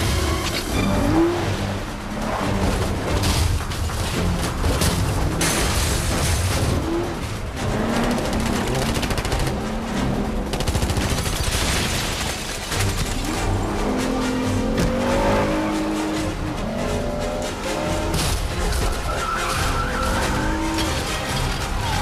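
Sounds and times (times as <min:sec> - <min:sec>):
music: 0:00.0 - 0:22.0
racing car engines: 0:00.0 - 0:22.0
road noise: 0:00.0 - 0:22.0.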